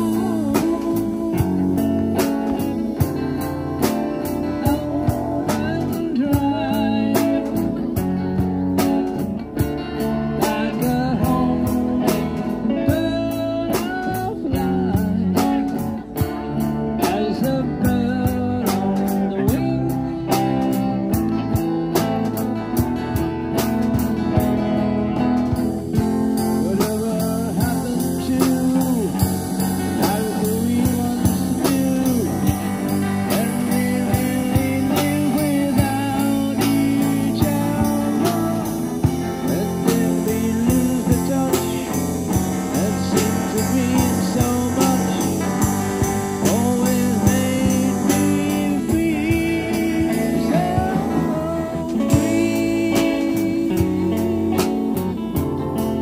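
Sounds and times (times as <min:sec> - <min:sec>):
person singing: 0:00.0 - 0:22.7, 0:24.1 - 0:56.0
drum kit: 0:00.0 - 0:56.0
electric guitar: 0:00.0 - 0:56.0
strummed acoustic guitar: 0:00.0 - 0:56.0.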